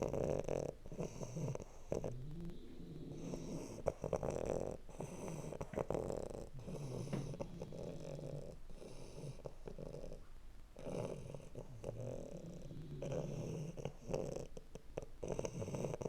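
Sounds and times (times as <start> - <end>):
dogs snoring: 0.0 - 16.0.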